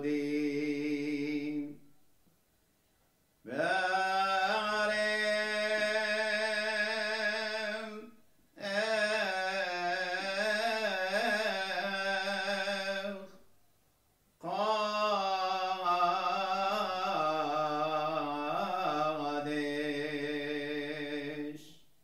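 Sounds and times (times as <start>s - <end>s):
man singing liturgical chant: 0.0s - 1.8s, 3.5s - 13.4s, 14.4s - 21.8s.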